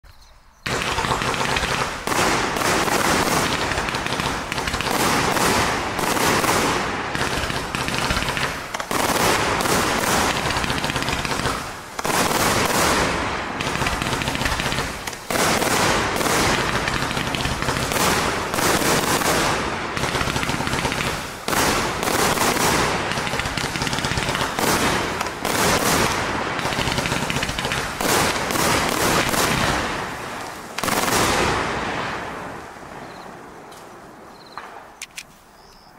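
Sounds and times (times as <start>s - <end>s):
fireworks crackling: 0.6s - 35.0s
fireworks launching and bursting: 0.6s - 35.0s.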